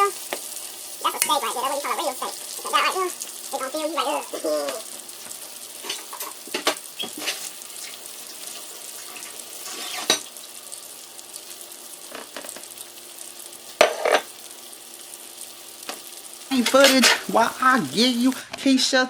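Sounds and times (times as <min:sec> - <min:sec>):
steaks sizzling in a hot pan: 0:00.0 - 0:18.4.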